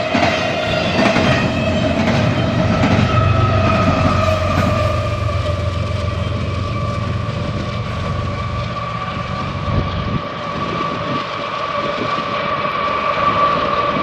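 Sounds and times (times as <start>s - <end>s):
low train rumble: 0.0s - 14.0s
train wheels clattering on rails: 0.0s - 14.0s
high-pitched wheel squeal: 0.6s - 14.0s.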